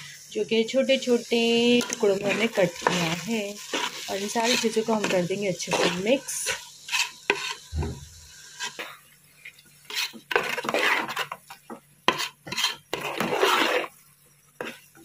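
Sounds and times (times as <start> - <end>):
spoon stirring in metal pot: 1.6 - 15.0.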